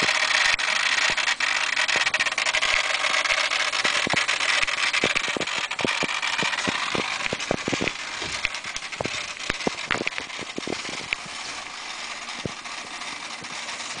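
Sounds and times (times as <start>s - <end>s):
irregular electrical clicks and crackles: 0.0s - 14.0s
steady hiss: 0.0s - 14.0s.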